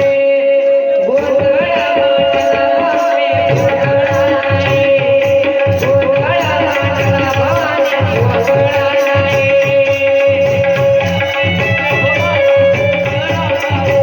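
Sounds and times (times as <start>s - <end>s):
person singing: 0.0s - 14.0s
hand drum rhythm: 1.2s - 14.0s.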